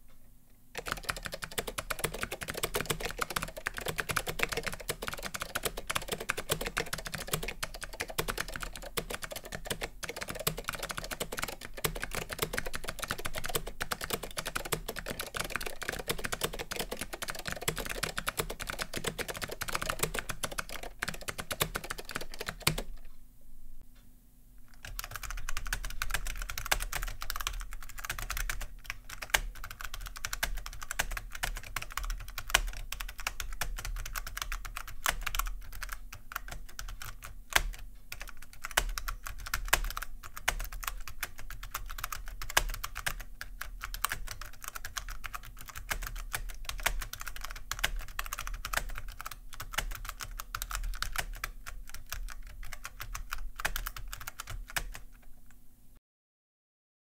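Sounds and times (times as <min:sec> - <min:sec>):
fast typing on mechanical keyboard: 0:00.8 - 0:23.0, 0:24.7 - 0:55.3.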